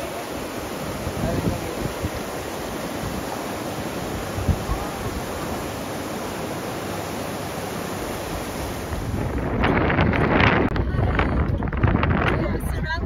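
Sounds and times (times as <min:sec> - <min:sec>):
river water rushing: 0:00.0 - 0:10.7.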